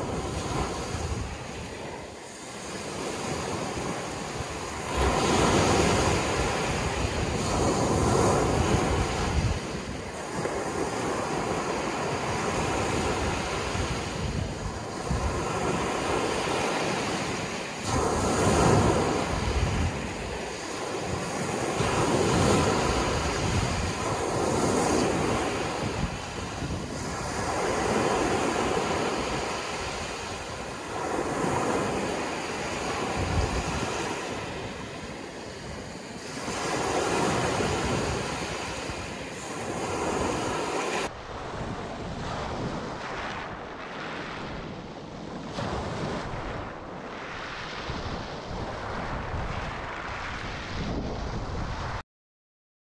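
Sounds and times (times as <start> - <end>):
waves breaking on pebble beach: 0.0 - 51.4
surf on stony beach: 0.0 - 52.0
wind buffeting microphone: 0.0 - 52.0.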